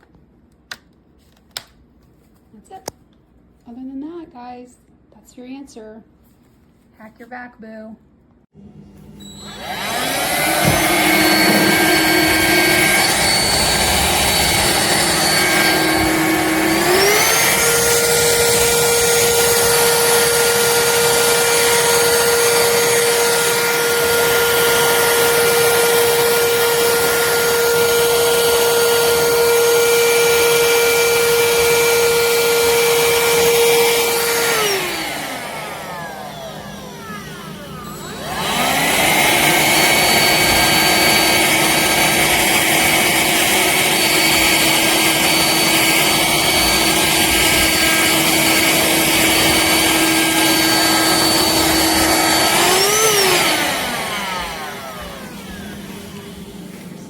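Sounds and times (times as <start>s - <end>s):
stick vacuum motor whine: 8.6s - 57.0s.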